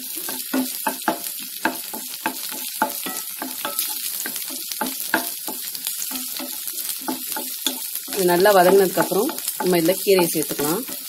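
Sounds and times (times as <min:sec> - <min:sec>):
garlic sizzling in oil: 0:00.0 - 0:11.0
wooden spatula scraping a pan: 0:00.0 - 0:11.0.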